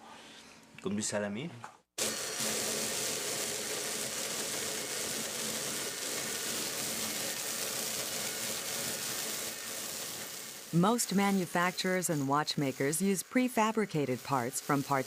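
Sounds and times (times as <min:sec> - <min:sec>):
machine tool cutting metal: 0:02.0 - 0:15.0.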